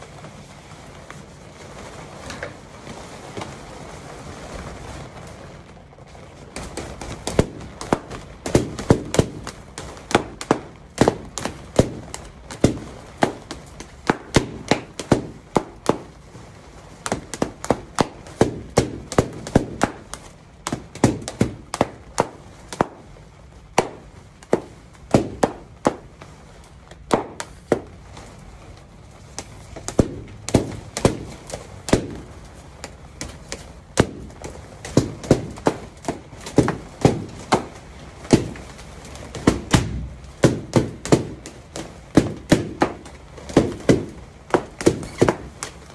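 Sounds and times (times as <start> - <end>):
balloons bursting: 0.0 - 45.9.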